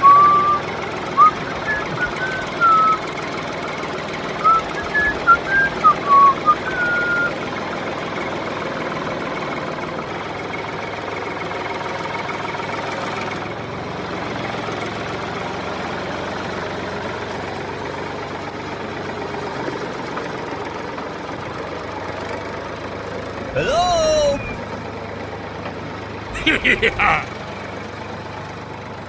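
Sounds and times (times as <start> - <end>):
engine running steadily: 0.0 - 23.6, 24.4 - 29.0.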